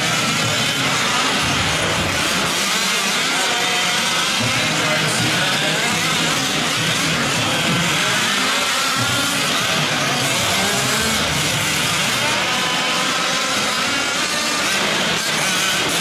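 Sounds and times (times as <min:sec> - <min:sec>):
rc truck engines racing: 0:00.0 - 0:16.0.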